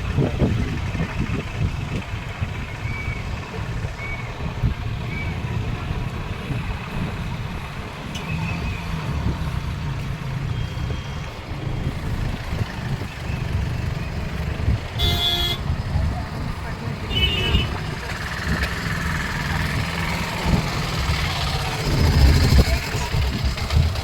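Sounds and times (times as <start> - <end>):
low rumble of road vehicles: 0.0 - 24.0.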